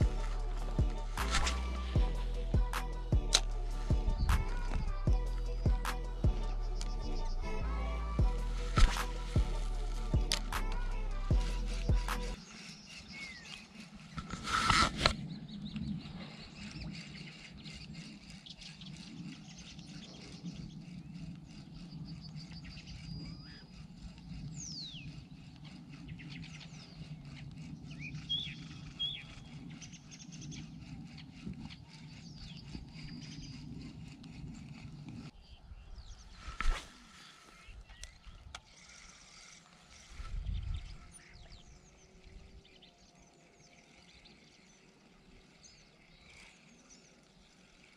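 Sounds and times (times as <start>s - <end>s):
fishing reel whirring: 0.0s - 35.4s, 36.4s - 47.9s
birds chirping: 0.0s - 47.9s.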